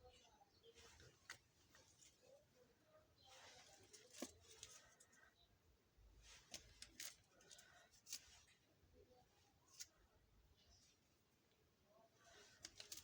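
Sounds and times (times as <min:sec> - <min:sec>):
soft rustle: 0:00.0 - 0:13.0.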